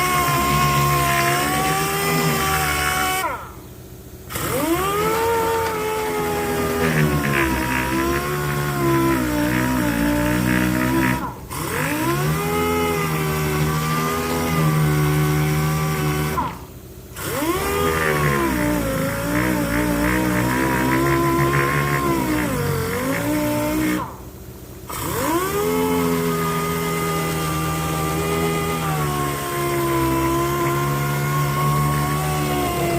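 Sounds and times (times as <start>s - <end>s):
electric power sander: 0.0s - 3.6s, 4.3s - 16.6s, 17.2s - 24.2s, 24.9s - 32.9s.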